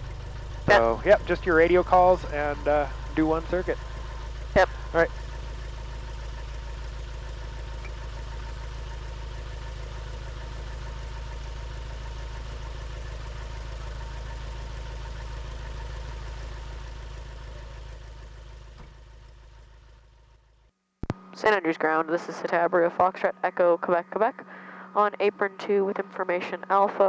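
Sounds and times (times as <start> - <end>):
propeller aircraft engine running: 0.0 - 27.0.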